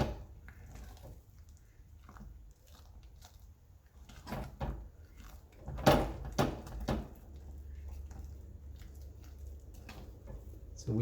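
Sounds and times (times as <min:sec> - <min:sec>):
utensil stirring mashed potato: 0:00.0 - 0:11.0.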